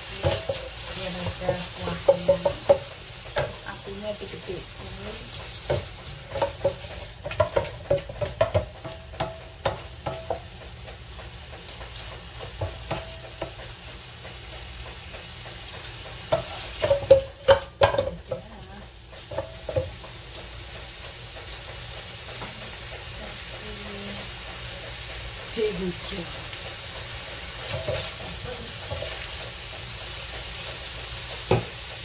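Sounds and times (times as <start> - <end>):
sizzle of frying: 0.0 - 32.0
wooden spatula scraping a wok: 0.0 - 32.0.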